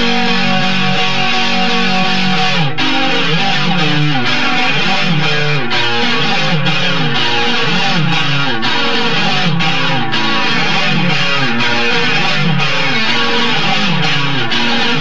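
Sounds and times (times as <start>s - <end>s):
electric guitar fast picked runs: 0.0s - 15.0s.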